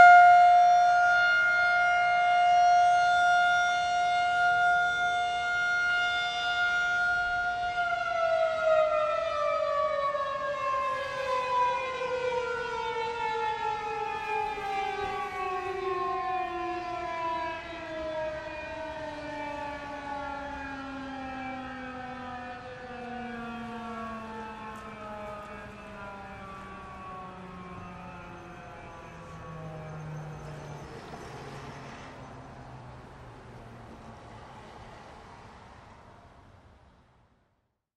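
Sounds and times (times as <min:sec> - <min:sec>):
warning siren winding down: 0:00.0 - 0:35.2.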